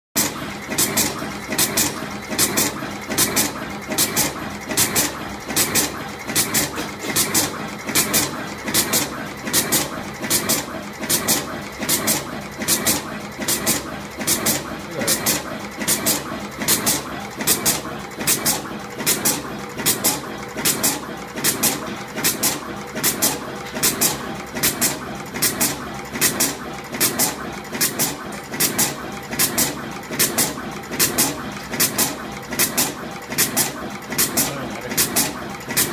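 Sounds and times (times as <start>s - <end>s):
machine mechanical clatter: 0.2s - 35.9s.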